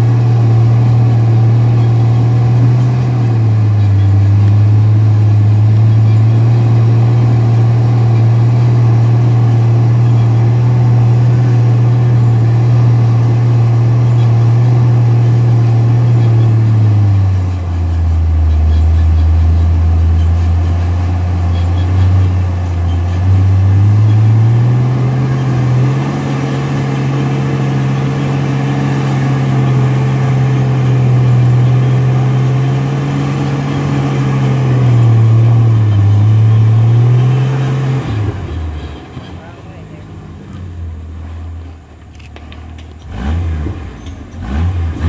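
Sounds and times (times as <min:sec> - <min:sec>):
engine working under load: 0:00.0 - 0:45.0.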